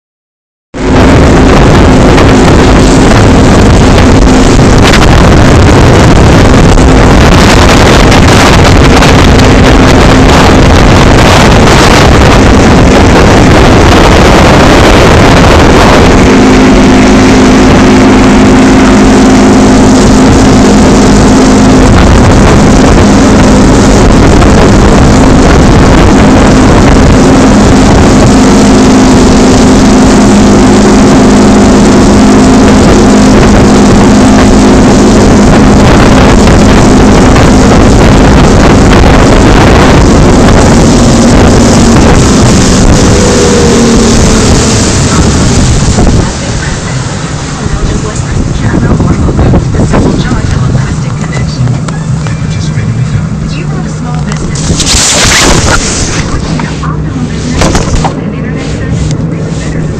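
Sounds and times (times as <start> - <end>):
motorboat engine hum: 0.7 - 59.9
water noise: 0.7 - 59.9
wind rush on microphone: 0.7 - 59.9.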